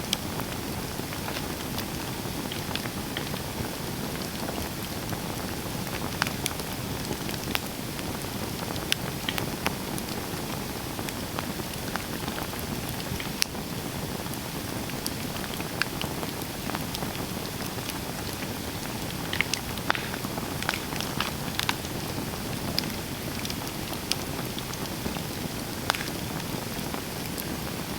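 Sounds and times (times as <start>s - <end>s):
campfire flames rushing: 0.0s - 27.9s
fire crackling and popping: 0.0s - 27.9s.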